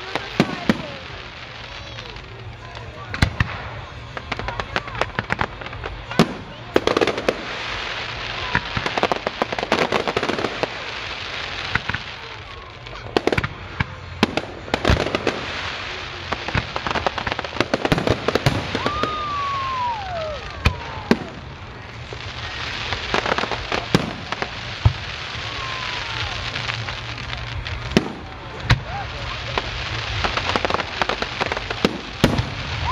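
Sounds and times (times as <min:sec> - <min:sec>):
falling whistling fireworks: 0:00.0 - 0:32.9
fireworks bangs and pops: 0:00.0 - 0:32.9
hiss of burning fireworks: 0:00.0 - 0:32.9.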